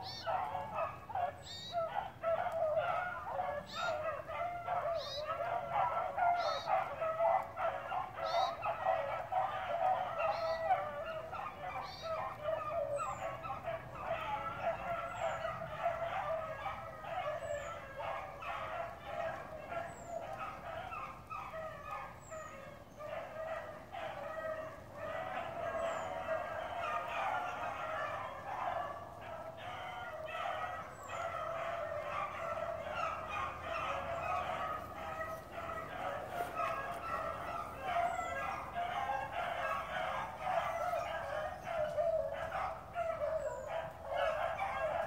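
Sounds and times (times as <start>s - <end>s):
hounds baying together: 0.0s - 45.0s.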